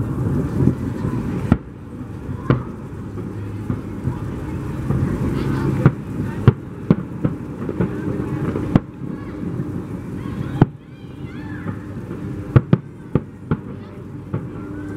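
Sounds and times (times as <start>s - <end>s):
fireworks bangs: 0.0s - 14.9s.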